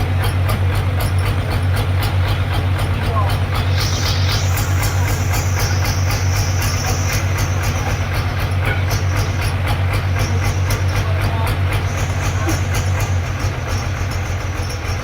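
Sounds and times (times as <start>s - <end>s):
fast regular clatter: 0.0s - 15.0s
sawmill machinery humming: 0.0s - 15.0s.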